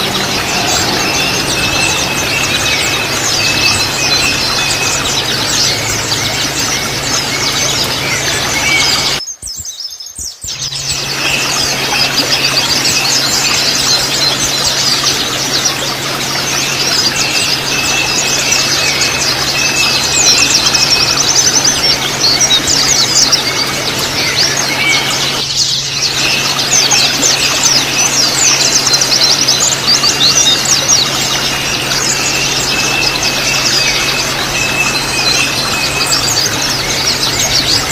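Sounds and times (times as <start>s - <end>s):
flock of birds twittering: 0.0s - 37.9s.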